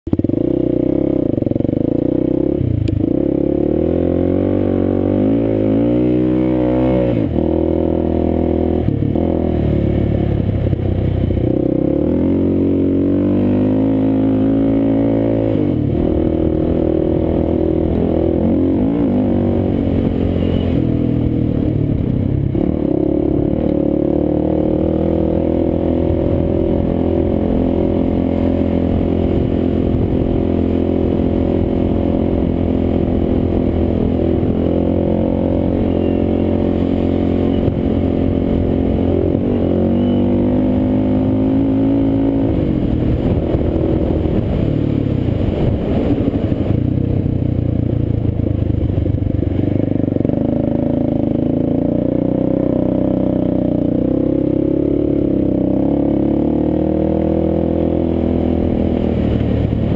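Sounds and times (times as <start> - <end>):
quad bike engine revving: 0.1 - 59.9.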